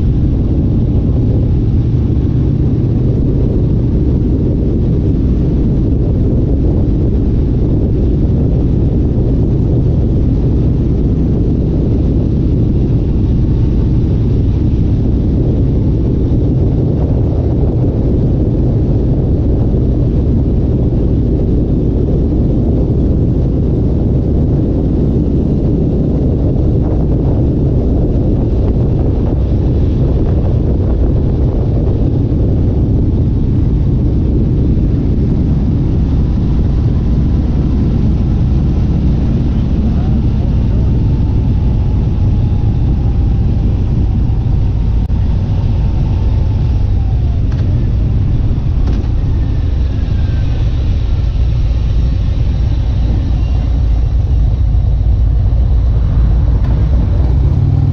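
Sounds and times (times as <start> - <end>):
vehicle engine rumbling: 0.0 - 57.9
wind noise: 0.0 - 57.9.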